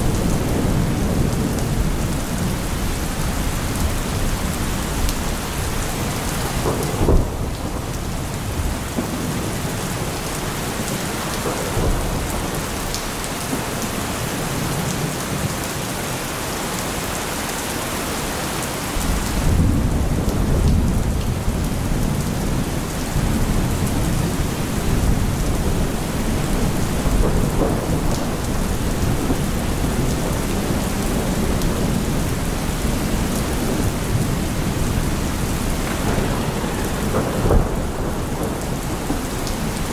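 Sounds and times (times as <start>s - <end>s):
thunder rumbling: 0.0s - 15.4s, 19.0s - 39.9s
steady rain falling: 0.0s - 39.9s.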